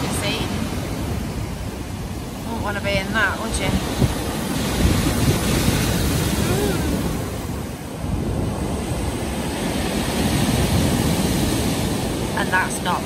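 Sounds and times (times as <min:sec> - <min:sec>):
waves breaking against a sea wall: 0:00.0 - 0:13.0
wind rumbling on microphone: 0:00.0 - 0:13.0.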